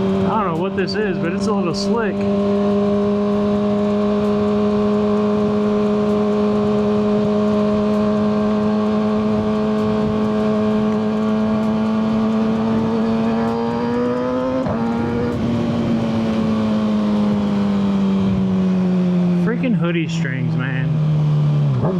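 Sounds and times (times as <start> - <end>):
rushing wind: 0.0 - 19.4
motorcycle engine cruising: 0.0 - 21.9.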